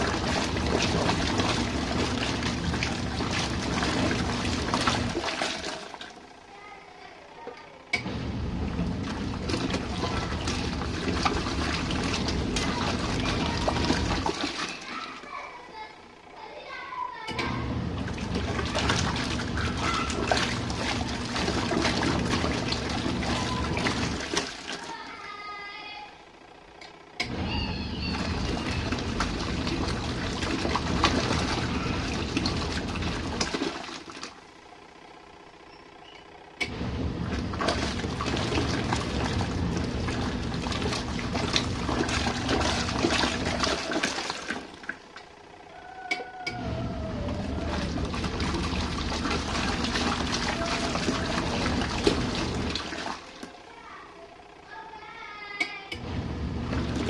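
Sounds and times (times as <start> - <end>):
water sloshing: 0.0 - 16.0, 17.3 - 25.7, 27.3 - 34.5, 37.0 - 45.5, 46.1 - 54.1, 56.0 - 57.0
washing machine agitating: 0.0 - 57.0.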